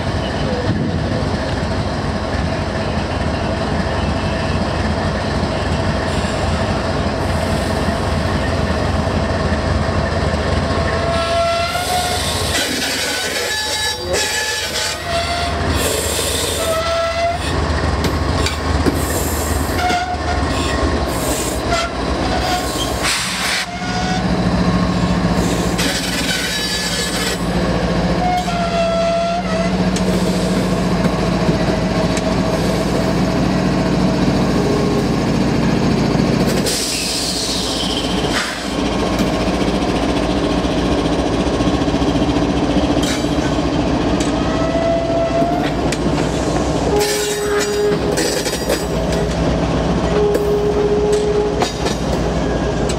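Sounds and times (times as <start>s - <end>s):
diesel locomotives rumbling: 0.0s - 52.9s
wheels rumbling on rail: 0.0s - 52.9s.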